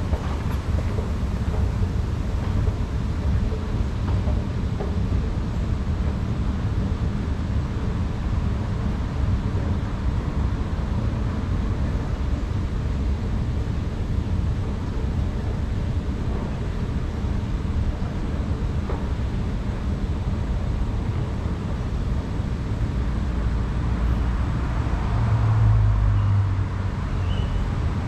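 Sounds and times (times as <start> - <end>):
escalator rumbling: 0.0 - 28.0.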